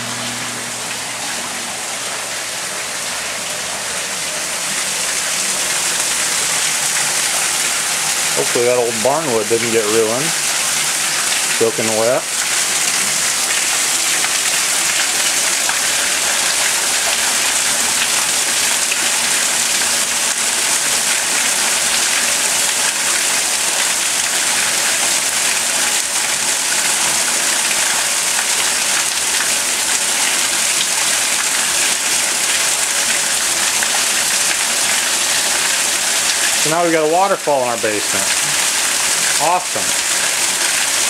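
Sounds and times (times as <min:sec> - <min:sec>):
water pouring and splashing: 0:00.0 - 0:41.0.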